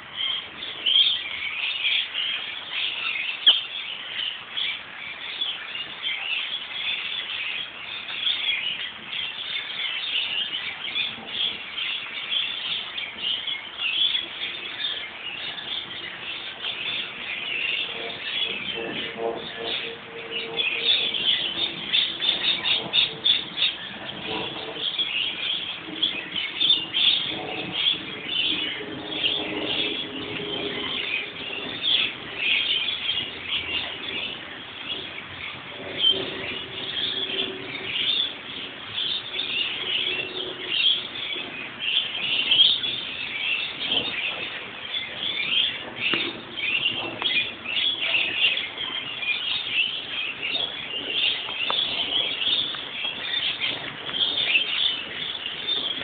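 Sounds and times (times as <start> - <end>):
lorikeets chattering: 0.0 - 56.0.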